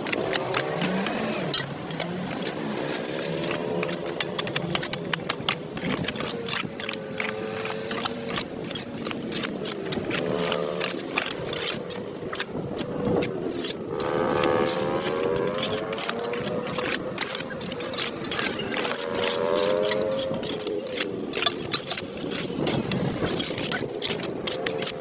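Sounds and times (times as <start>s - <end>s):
rapid scraping clicks: 0.0s - 25.0s.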